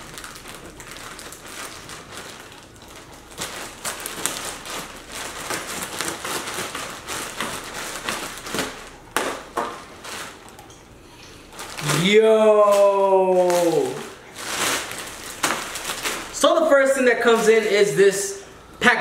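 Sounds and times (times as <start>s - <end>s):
knife slitting plastic bag: 0.0s - 10.6s, 11.5s - 18.3s
plastic crackling and crinkling: 0.0s - 18.4s.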